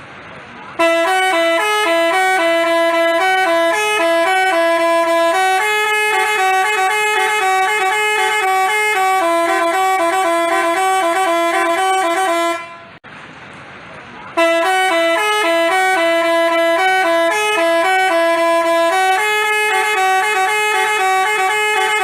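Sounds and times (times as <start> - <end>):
bus musical horn playing tune: 0.7 - 13.0, 14.4 - 22.0.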